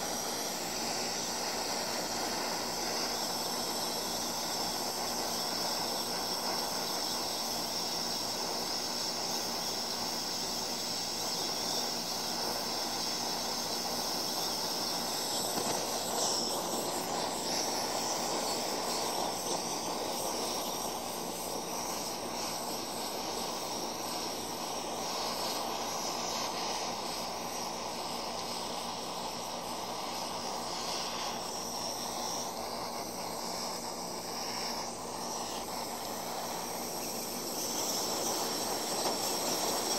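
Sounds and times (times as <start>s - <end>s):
blow torch hissing: 0.0s - 39.9s.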